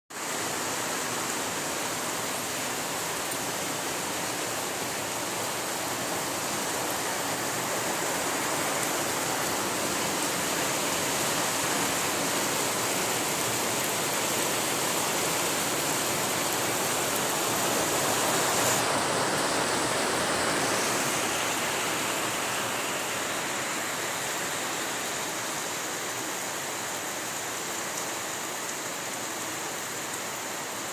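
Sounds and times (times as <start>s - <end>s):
steady rain falling: 0.1s - 30.9s.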